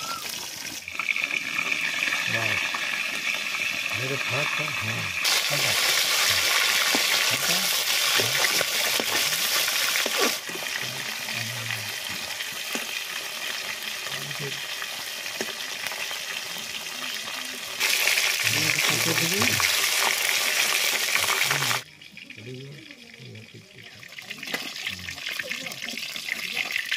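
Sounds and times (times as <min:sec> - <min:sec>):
fish sizzling in oil: 0:00.0 - 0:22.4, 0:24.0 - 0:26.9.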